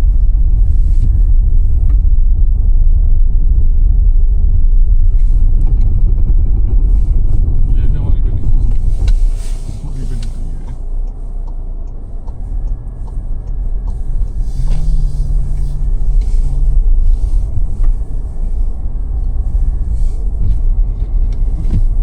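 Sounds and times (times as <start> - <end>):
car driving on road: 0.0 - 22.0.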